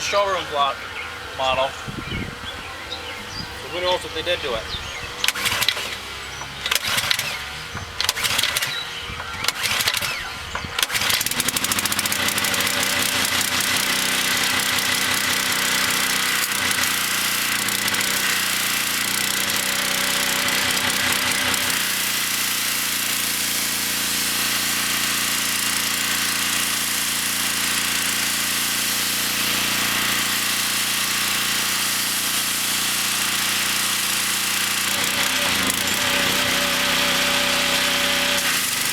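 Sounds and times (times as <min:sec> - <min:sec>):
pressure washer engine running: 0:03.0 - 0:38.9
pressure washer engine starting: 0:03.6 - 0:38.9.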